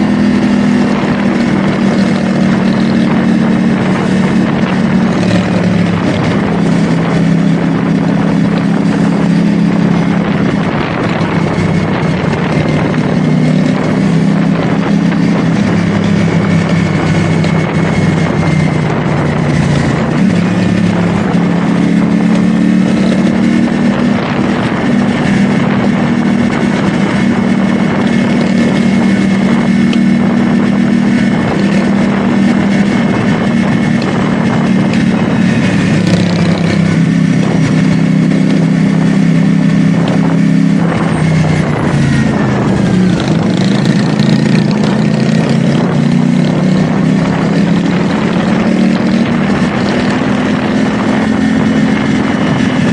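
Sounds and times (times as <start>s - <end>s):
motorcycle engine cruising: 0.0s - 52.9s
wind rushing over microphone: 0.0s - 52.9s.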